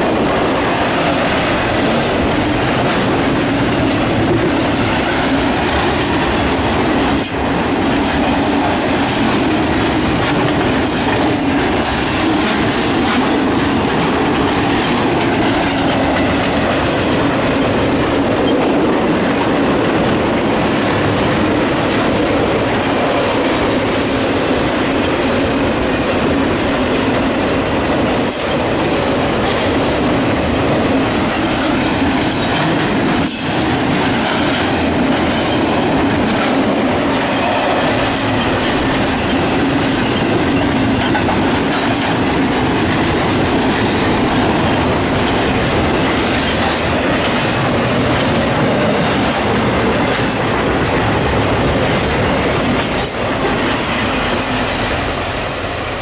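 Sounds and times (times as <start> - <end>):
clickety-clack of train wheels: 0.0 - 56.0
steel wheels rushing on rail: 0.0 - 56.0.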